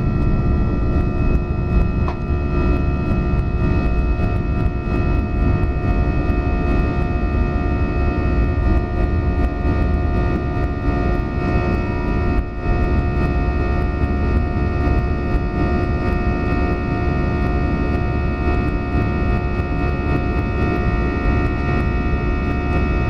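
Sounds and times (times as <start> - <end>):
jet engines roaring in cabin: 0.0 - 23.0.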